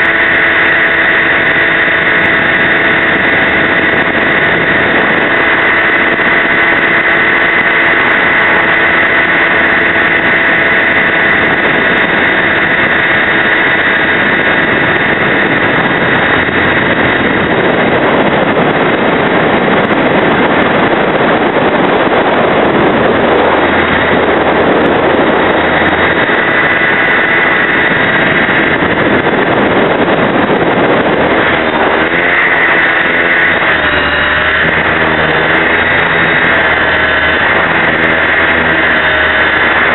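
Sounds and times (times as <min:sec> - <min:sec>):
rc helicopter motor whine: 0:00.0 - 0:39.9
rotor noise: 0:00.0 - 0:39.9
rushing noise: 0:00.0 - 0:39.9.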